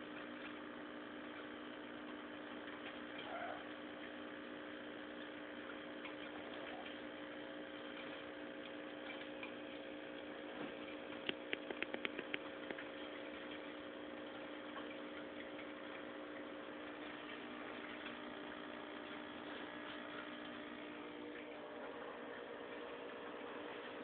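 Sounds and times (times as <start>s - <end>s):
aquarium pump humming faintly: 0.0s - 24.0s.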